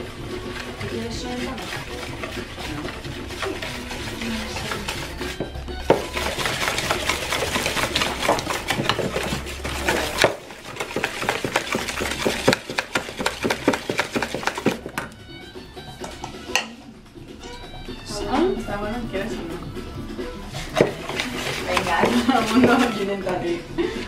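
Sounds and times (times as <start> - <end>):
whisk beating batter in bowl: 0.0 - 24.0.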